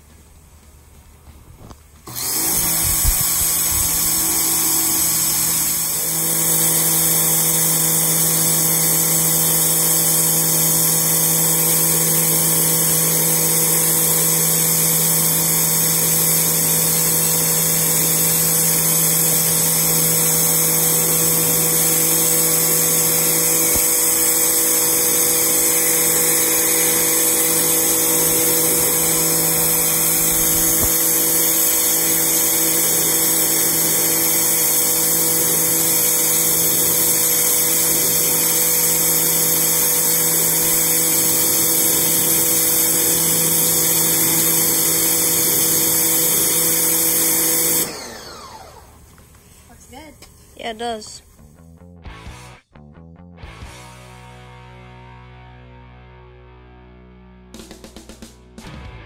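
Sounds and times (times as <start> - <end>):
pressure washer running: 2.0 - 49.7.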